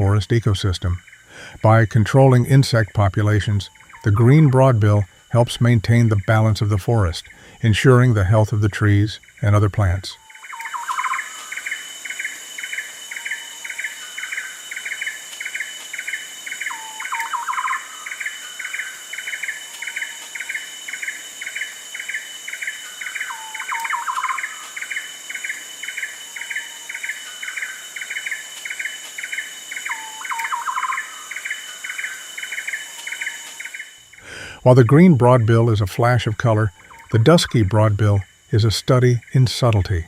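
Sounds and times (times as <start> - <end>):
high-pitched insect drone: 0.0 - 40.0
rapid chirps: 0.0 - 40.0.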